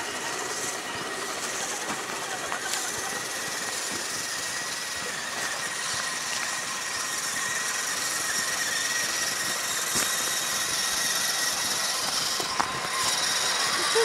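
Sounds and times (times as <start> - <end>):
whine of small motors and gears: 0.0 - 14.0.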